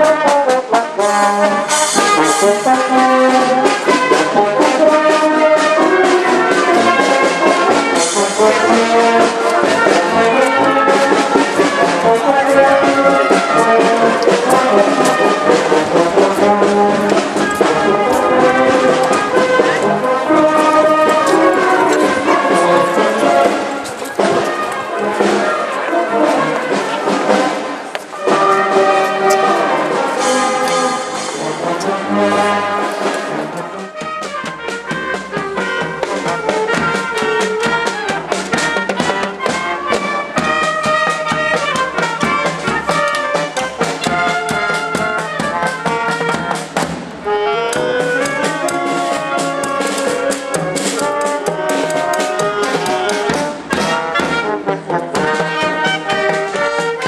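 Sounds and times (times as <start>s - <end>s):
brass music: 0.0s - 57.0s
steady beat: 0.0s - 57.0s.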